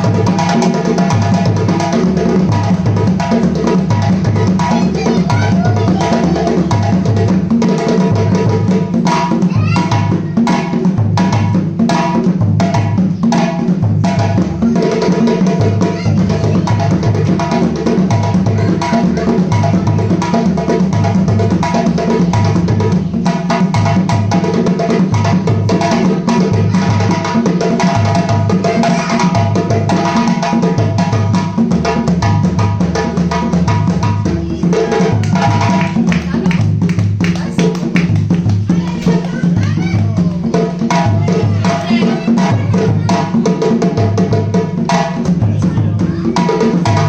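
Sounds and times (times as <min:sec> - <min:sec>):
drum-heavy music: 0:00.0 - 0:47.0.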